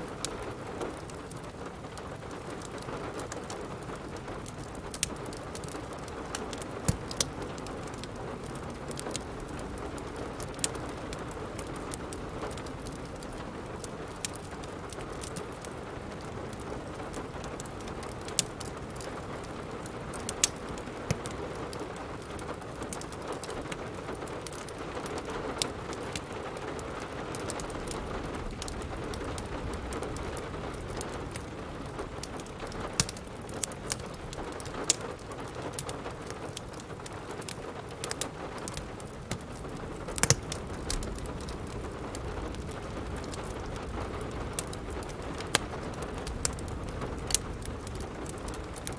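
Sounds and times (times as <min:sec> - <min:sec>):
steady rain falling: 0:00.0 - 0:48.9
wood fire crackling: 0:00.0 - 0:48.9.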